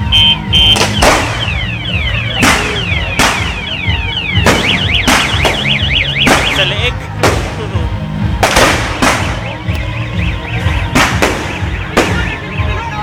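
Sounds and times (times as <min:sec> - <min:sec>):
fireworks exploding: 0:00.1 - 0:07.7, 0:08.3 - 0:12.6.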